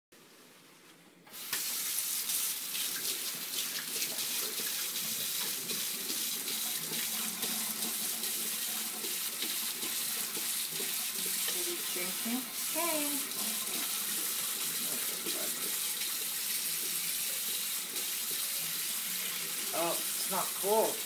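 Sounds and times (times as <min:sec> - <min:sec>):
faucet running into metal sink: 0:01.6 - 0:21.0.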